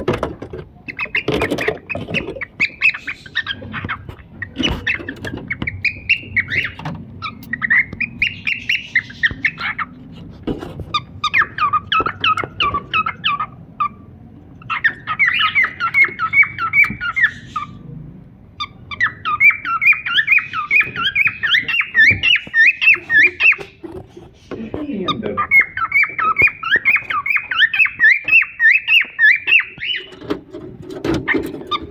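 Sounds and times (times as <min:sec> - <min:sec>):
cockatiels chirping: 0:00.2 - 0:17.9, 0:18.6 - 0:31.9.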